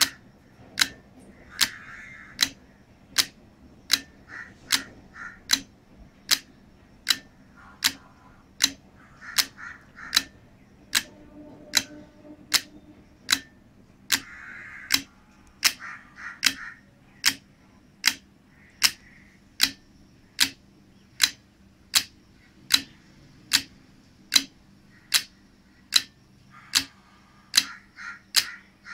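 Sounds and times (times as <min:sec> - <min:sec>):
relays clicking in steady rhythm: 0:00.0 - 0:28.9.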